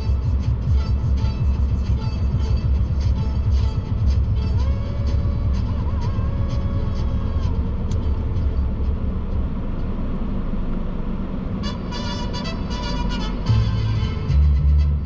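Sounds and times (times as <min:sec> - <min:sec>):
traffic rumble inside car: 0:00.0 - 0:15.0.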